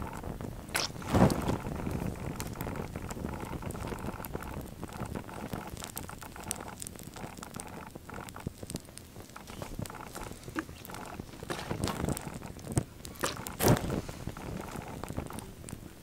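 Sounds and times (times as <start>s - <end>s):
flames crackling: 0.0s - 16.0s
sharp little pops: 0.0s - 16.0s.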